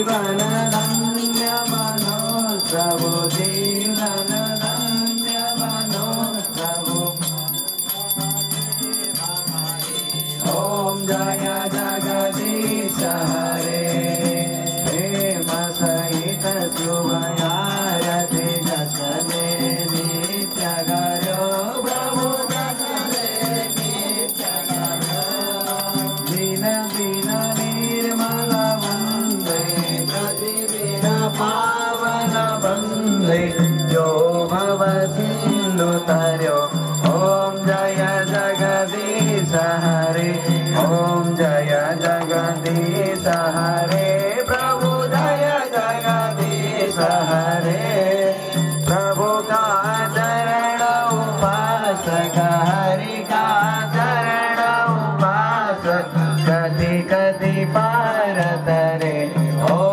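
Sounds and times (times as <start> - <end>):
hand bell ringing: 0.0 - 59.9
voices singing a hymn: 9.0 - 59.9.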